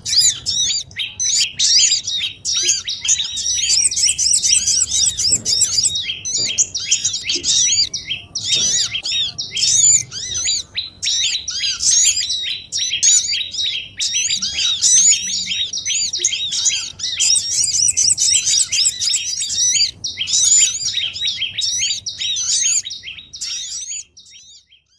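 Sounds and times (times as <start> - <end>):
songbirds chirping in chorus: 0.0 - 24.9.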